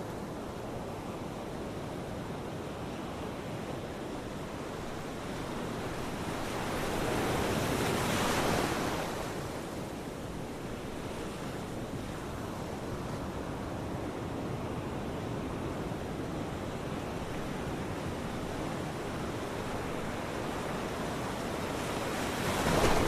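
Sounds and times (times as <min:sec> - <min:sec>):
ocean waves washing onto shore: 0:00.0 - 0:23.0.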